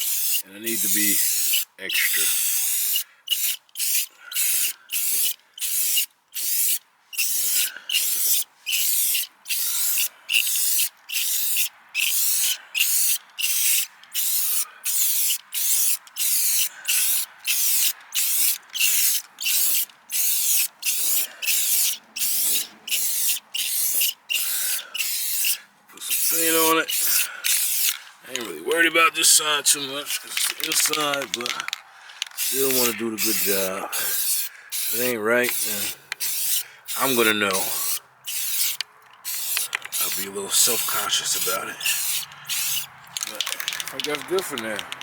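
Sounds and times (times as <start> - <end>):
spray can hissing bursts: 0.0 - 28.5, 29.2 - 31.7, 32.3 - 45.0.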